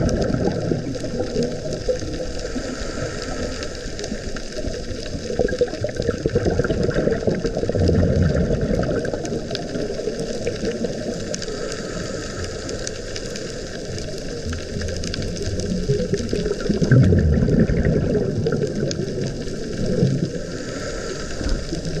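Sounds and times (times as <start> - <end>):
faint underwater clicks: 0.0 - 22.0
underwater rumbling and sloshing: 0.0 - 22.0.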